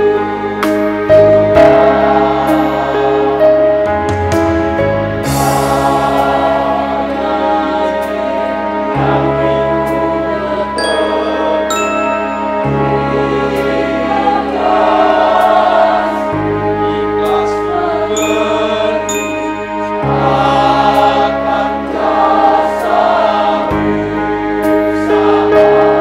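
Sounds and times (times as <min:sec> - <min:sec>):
mixed choir singing in harmony: 0:00.0 - 0:26.0.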